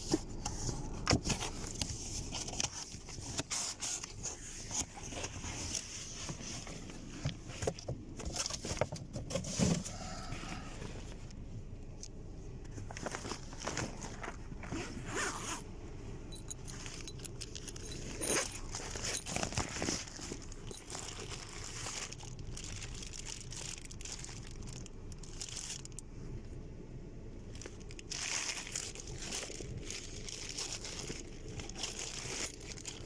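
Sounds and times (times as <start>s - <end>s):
rustling and crinkling: 0.0s - 26.7s, 27.4s - 33.0s.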